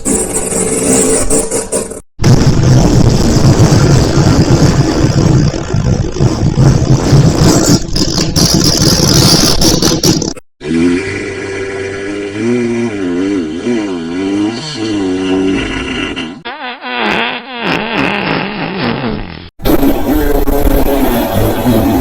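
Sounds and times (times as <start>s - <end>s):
fart sound effects: 0.0s - 11.0s, 12.4s - 22.0s.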